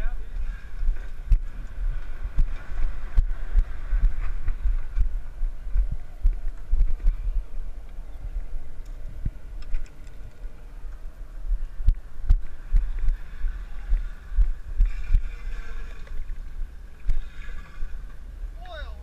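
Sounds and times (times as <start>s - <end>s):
thumping and rumble on camera microphone: 0.0s - 18.2s.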